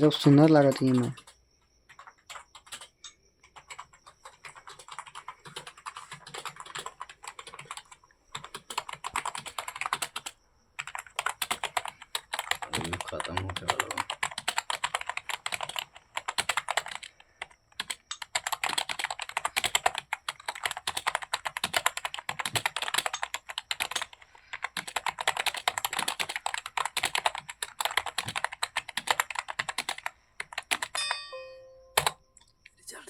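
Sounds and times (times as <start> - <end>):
fast typing on keyboard: 0.0 - 31.0, 31.9 - 32.2.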